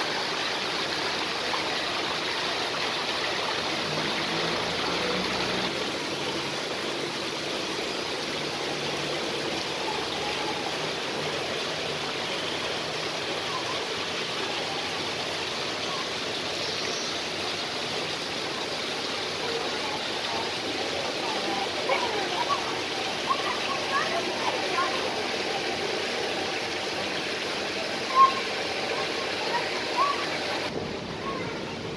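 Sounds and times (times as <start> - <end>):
waterfall splashing: 0.0 - 31.9.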